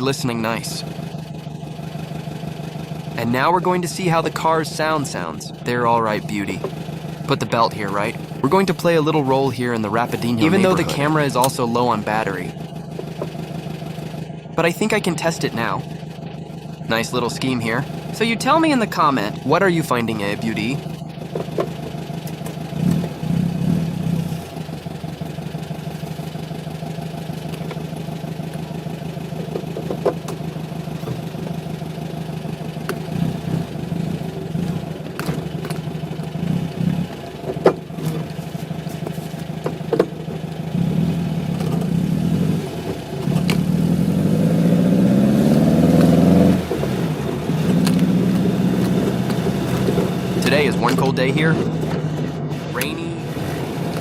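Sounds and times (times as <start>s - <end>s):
car engine from inside cabin: 0.0s - 54.0s.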